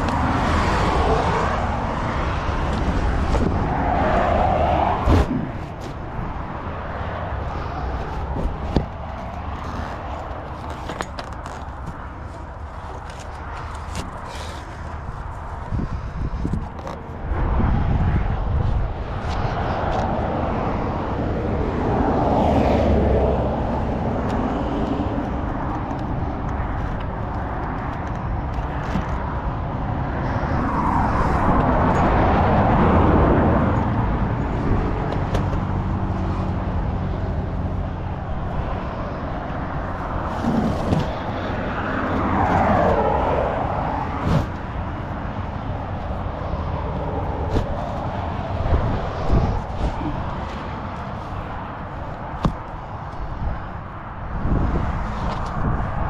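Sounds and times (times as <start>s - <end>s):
vehicles passing by: 0.0s - 56.0s.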